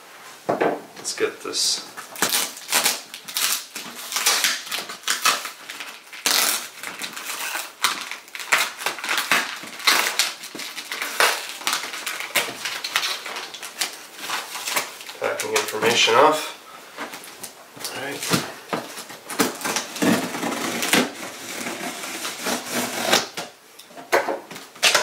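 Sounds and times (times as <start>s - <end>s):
plastic crinkling: 1.9s - 23.5s.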